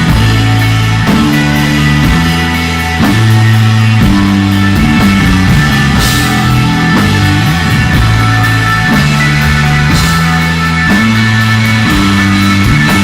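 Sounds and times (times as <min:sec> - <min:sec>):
bass notes: 0:00.0 - 0:13.0
electric guitar: 0:00.0 - 0:13.0.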